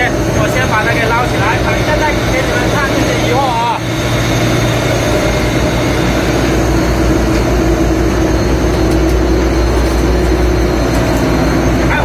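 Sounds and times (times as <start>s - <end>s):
diesel boat engine droning: 0.0s - 12.0s.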